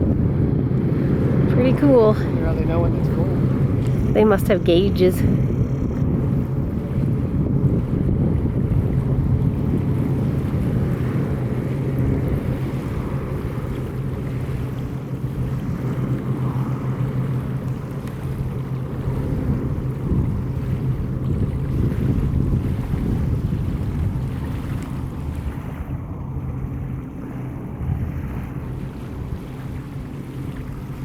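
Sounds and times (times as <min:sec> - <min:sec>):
aircraft engines humming: 0:00.0 - 0:31.0
wind rumbling on microphone: 0:00.0 - 0:31.0.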